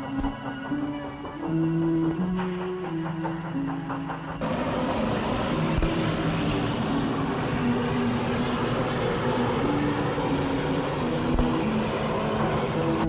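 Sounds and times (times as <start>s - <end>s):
background music: 0.0s - 13.0s
steam train running: 0.0s - 13.0s.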